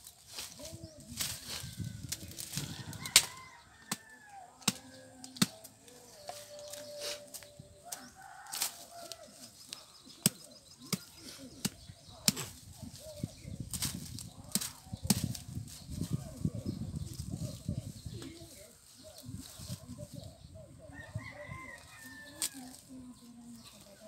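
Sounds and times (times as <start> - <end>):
dry leaves and twigs rustling: 0.0 - 24.0
chickens clucking: 0.5 - 21.4.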